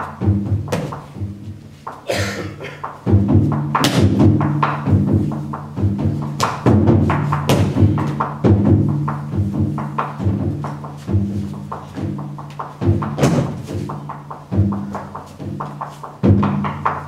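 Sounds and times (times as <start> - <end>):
taiko drums: 0.0 - 17.0.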